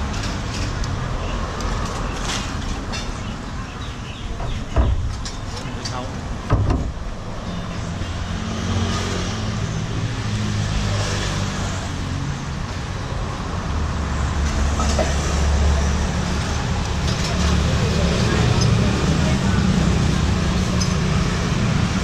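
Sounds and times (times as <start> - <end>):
traffic passing close by: 0.0 - 22.0.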